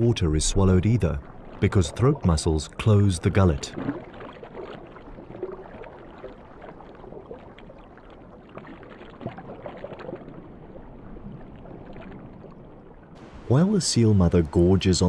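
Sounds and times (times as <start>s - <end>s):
muffled underwater water noise: 0.0s - 15.0s.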